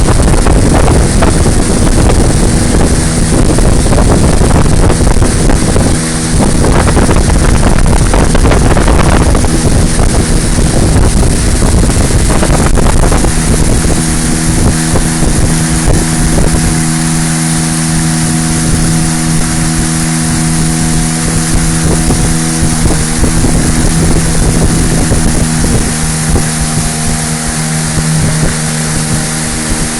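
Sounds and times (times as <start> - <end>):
motorboat engine running: 0.0 - 29.9
wind buffeting microphone: 0.0 - 29.9.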